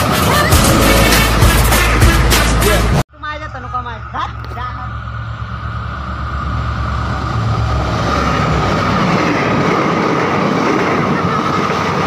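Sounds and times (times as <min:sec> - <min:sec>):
locomotive deep hum: 0:00.4 - 0:12.0.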